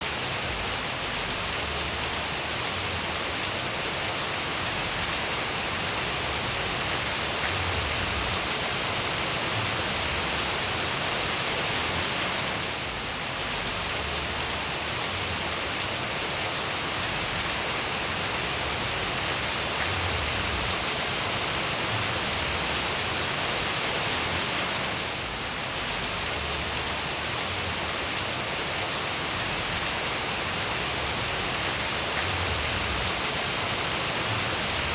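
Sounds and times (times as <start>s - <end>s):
dense rain falling: 0.0s - 34.9s.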